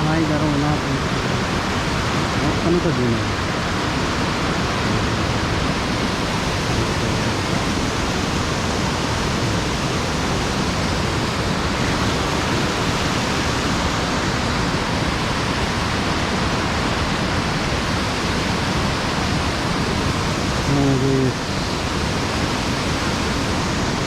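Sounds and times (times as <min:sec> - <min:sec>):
water rushing over a dam: 0:00.0 - 0:24.0.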